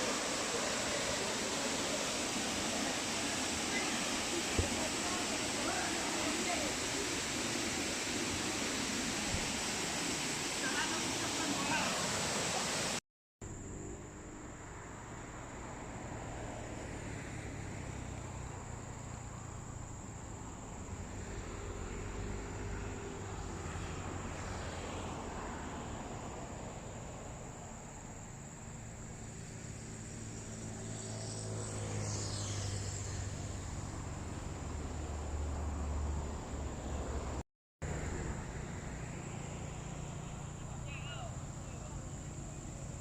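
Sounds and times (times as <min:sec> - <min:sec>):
high-pitched insect drone: 0:00.0 - 0:12.9, 0:13.5 - 0:37.2.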